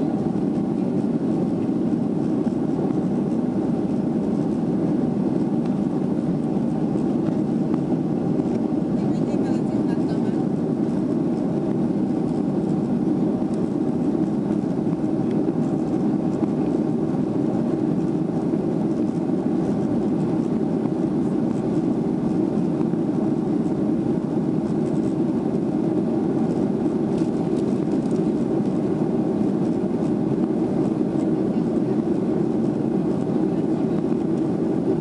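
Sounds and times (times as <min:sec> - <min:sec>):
airliner cabin engine drone: 0:00.0 - 0:35.0.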